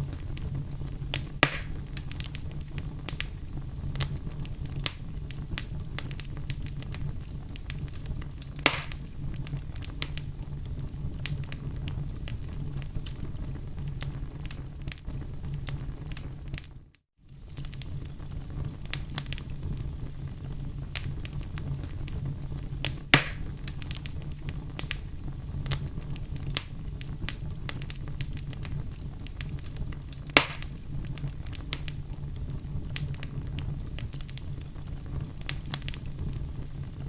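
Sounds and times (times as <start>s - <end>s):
campfire crackling: 0.0s - 37.0s
fire pops and snaps: 0.0s - 37.0s.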